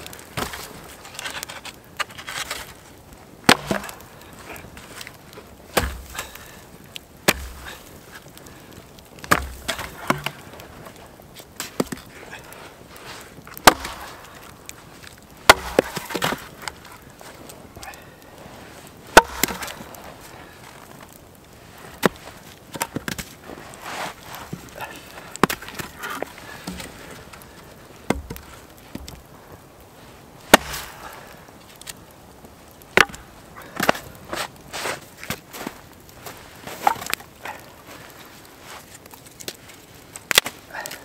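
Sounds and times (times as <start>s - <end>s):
rustling of wood being handled: 0.0s - 41.0s
wood cracking and splintering: 0.0s - 41.0s.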